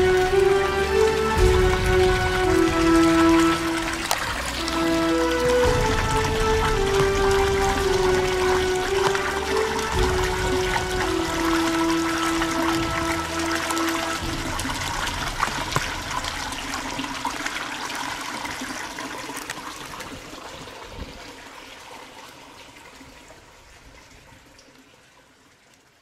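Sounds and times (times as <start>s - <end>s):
water splashing into stone basin: 0.0s - 24.7s.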